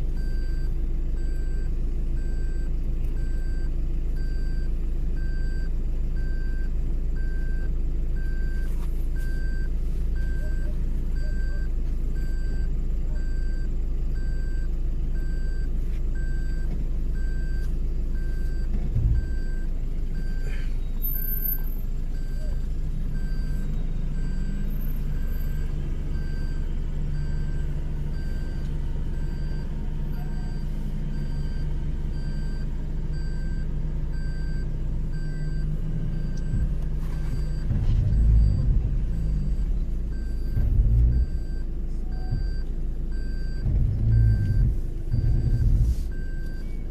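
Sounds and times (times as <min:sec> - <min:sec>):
vehicle engine running: 0:00.0 - 0:46.9
faint electronic beep: 0:00.2 - 0:46.9.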